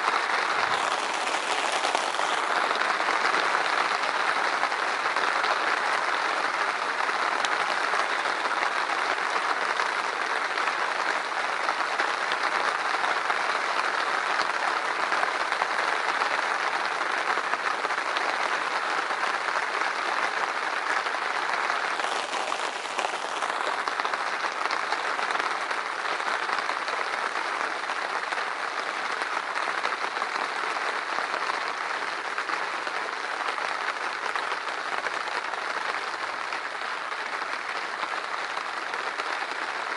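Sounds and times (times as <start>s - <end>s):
hard rain: 0.0s - 39.9s.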